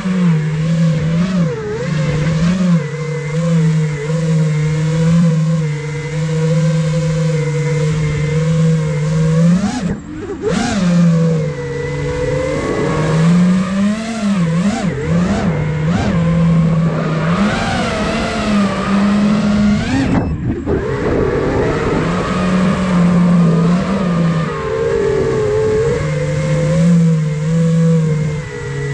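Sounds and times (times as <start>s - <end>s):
quadcopter motors and propellers whining: 0.0s - 28.9s.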